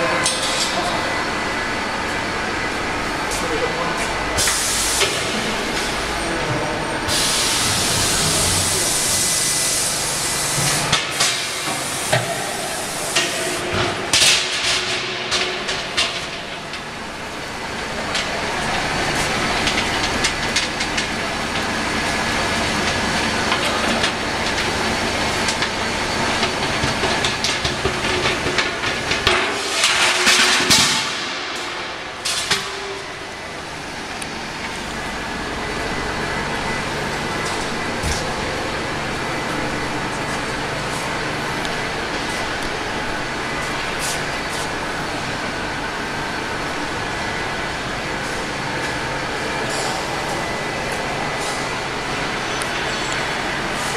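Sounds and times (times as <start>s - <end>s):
welding machine hissing and crackling: 1.6s - 53.9s.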